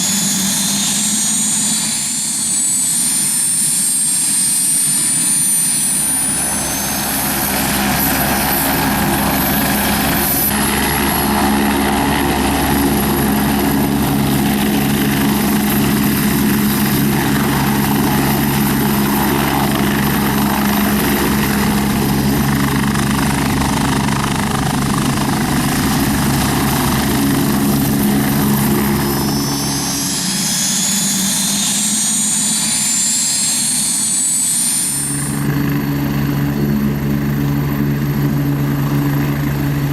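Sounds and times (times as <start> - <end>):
model helicopter rotor and motor: 0.0 - 39.9.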